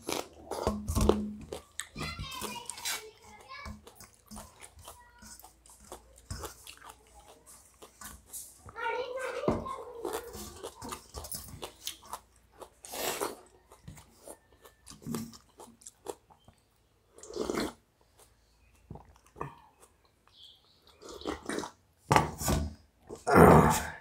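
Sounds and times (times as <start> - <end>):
person chewing: 0.0 - 8.7, 9.8 - 22.0.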